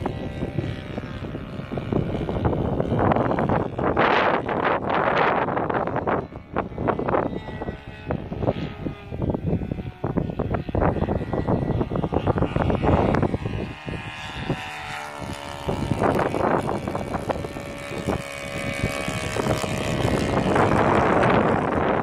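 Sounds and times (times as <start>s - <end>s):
model plane engine droning: 0.0s - 22.0s
wind rumble on microphone: 0.0s - 22.0s.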